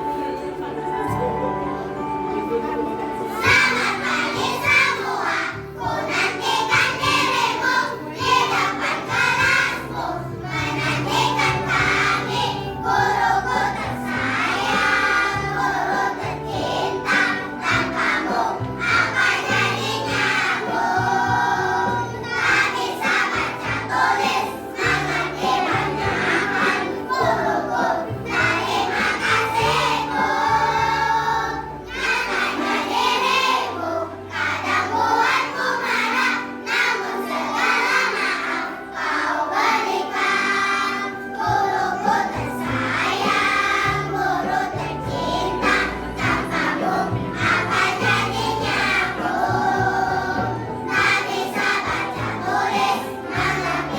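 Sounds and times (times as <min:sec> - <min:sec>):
children's choir singing: 0:00.0 - 0:53.9.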